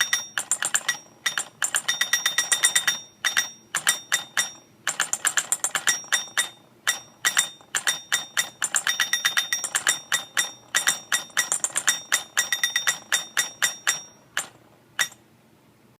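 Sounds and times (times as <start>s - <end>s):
mechanical alarm clock striker ringing: 0.0s - 15.2s.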